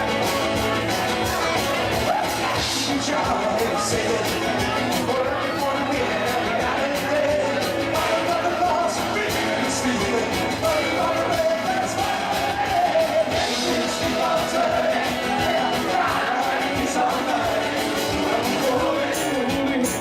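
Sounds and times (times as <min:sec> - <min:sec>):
person singing: 0:00.0 - 0:20.0
rock band playing: 0:00.0 - 0:20.0.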